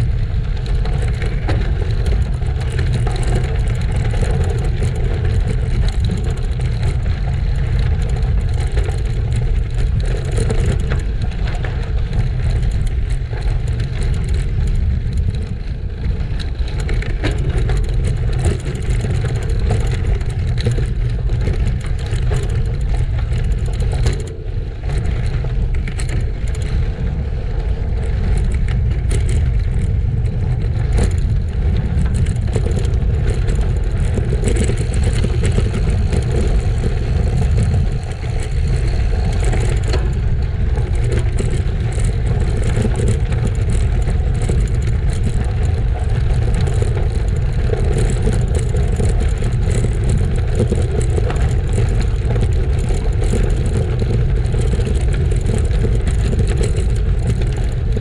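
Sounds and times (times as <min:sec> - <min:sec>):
tyres rattling over gravel: 0:00.0 - 0:58.0
wind rumble on microphone: 0:00.0 - 0:58.0.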